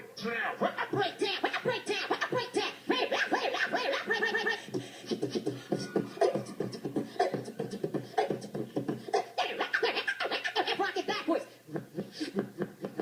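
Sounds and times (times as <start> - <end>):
person beatboxing: 0.2 - 11.4.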